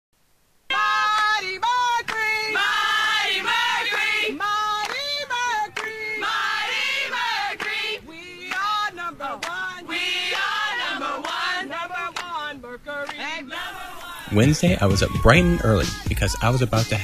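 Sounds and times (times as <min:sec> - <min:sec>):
voices singing a song: 0:00.7 - 0:17.0.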